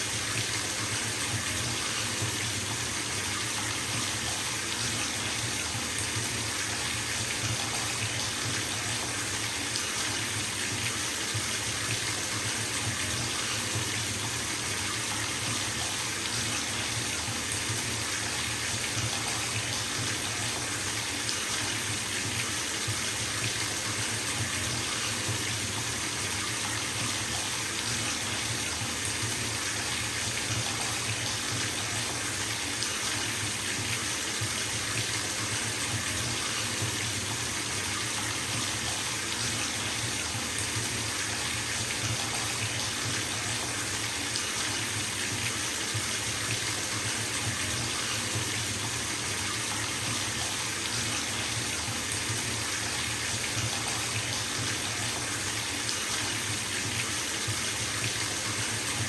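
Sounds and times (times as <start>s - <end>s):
tap water running into tub: 0.0s - 59.0s.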